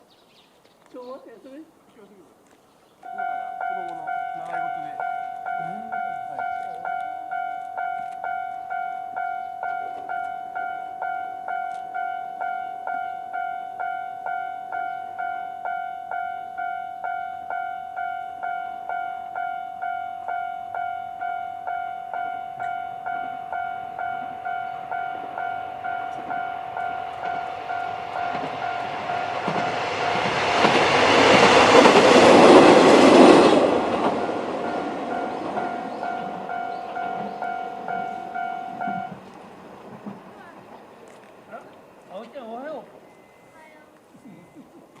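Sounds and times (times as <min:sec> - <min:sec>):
level-crossing alarm dinging: 0:03.0 - 0:39.4, 0:42.5 - 0:45.0
railcar wheels rushing on rails: 0:03.0 - 0:43.3.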